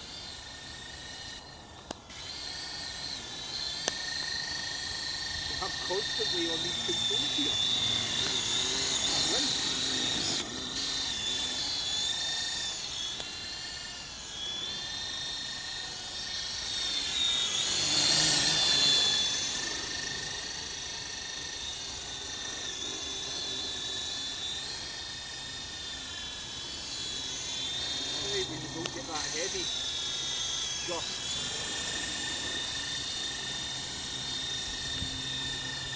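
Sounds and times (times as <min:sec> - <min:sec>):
model helicopter motor whine: 0:00.0 - 0:35.9.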